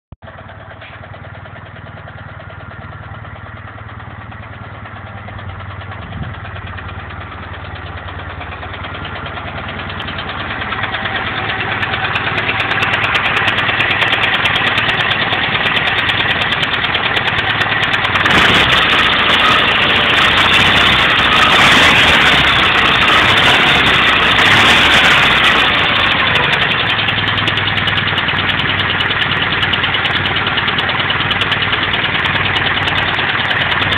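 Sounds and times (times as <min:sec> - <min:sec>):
vehicle engine knocking: 0:00.2 - 0:33.9.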